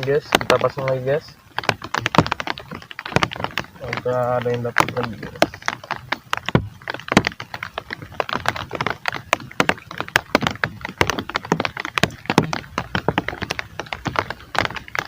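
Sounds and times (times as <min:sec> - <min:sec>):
heavy rain on hard surface: 0:00.0 - 0:15.0.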